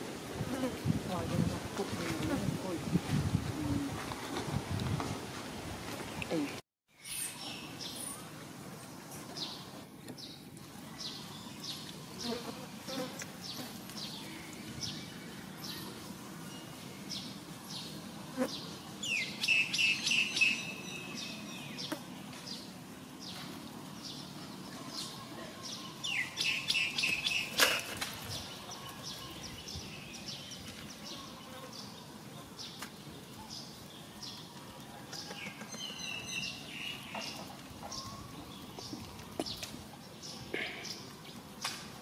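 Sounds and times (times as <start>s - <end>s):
birds chirping: 6.0s - 42.0s.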